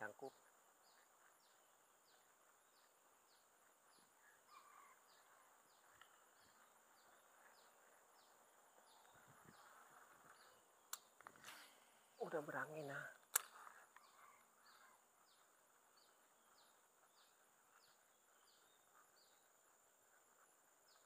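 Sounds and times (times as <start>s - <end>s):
insects: 0.0s - 21.0s.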